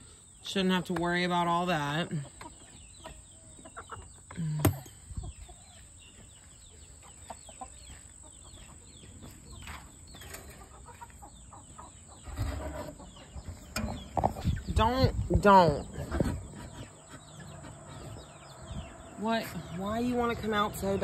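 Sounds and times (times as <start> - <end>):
chickens clucking and calling: 0.0 - 21.0.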